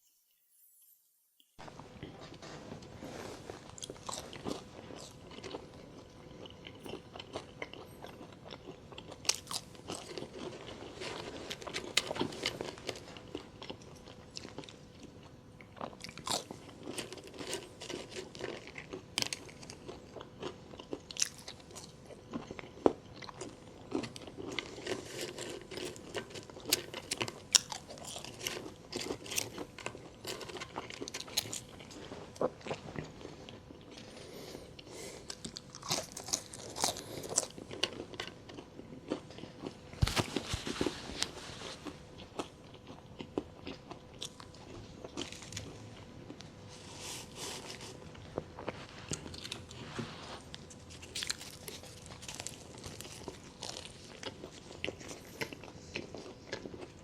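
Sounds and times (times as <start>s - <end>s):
faint steady hum: 0.0s - 57.0s
crunchy chewing: 1.6s - 57.0s.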